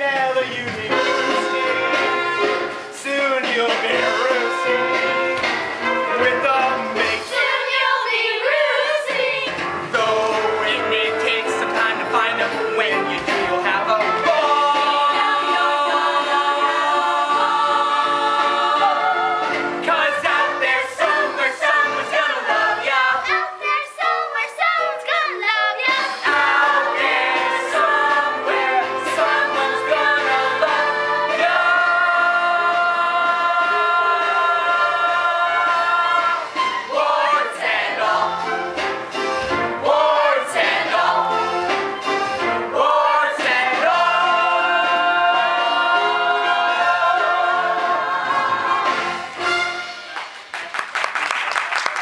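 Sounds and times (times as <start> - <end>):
musical accompaniment: 0.0 - 52.0
cast singing together: 3.3 - 24.6, 25.8 - 38.8, 39.6 - 41.8, 42.6 - 49.3.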